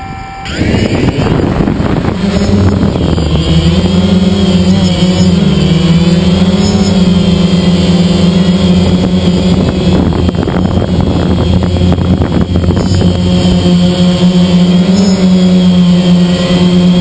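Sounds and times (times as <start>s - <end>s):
drone propellers humming: 0.0s - 17.0s
rough crackling noise: 0.6s - 17.0s.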